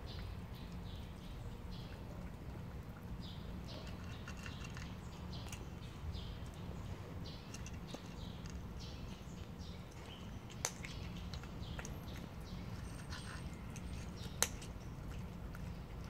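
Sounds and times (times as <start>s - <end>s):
cat crunching dry kibble: 2.6s - 16.0s.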